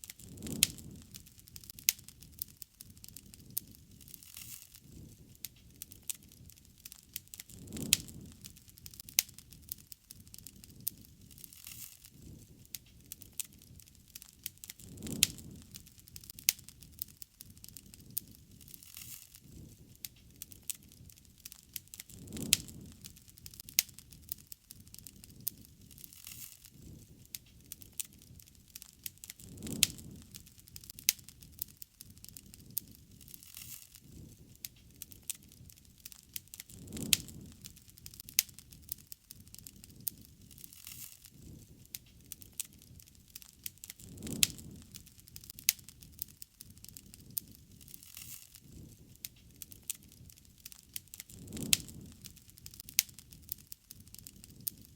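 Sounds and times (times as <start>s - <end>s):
bonfire crackling and popping: 0.0s - 54.9s
low rush of flame: 0.0s - 54.9s.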